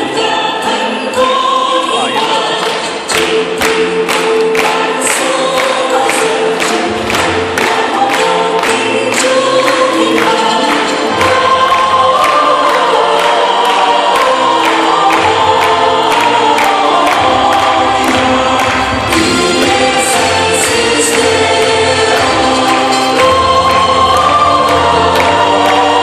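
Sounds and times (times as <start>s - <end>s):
choir singing: 0.0s - 26.0s
accompaniment with steady beat: 1.2s - 26.0s.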